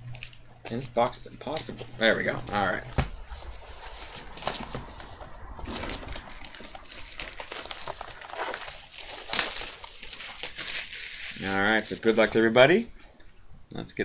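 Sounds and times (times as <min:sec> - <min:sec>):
packaging crinkling: 0:00.0 - 0:12.4.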